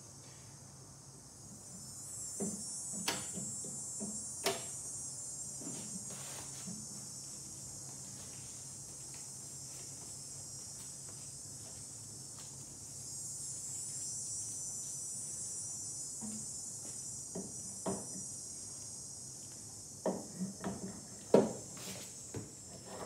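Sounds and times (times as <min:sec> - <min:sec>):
high-pitched hiss: 0:00.0 - 0:23.0.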